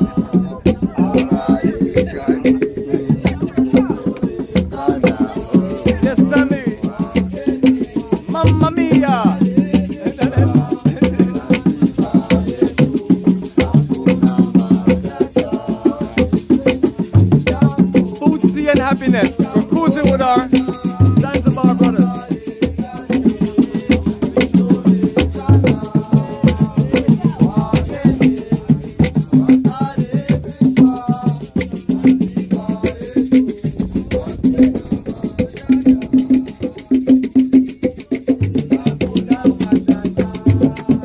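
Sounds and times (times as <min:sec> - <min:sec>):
upbeat music with percussion beat: 0:00.0 - 0:41.0.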